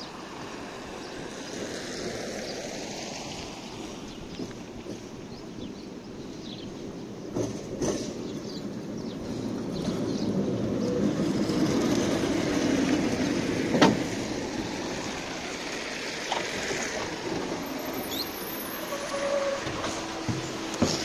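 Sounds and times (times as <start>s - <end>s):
tram running noise: 0.0s - 21.0s.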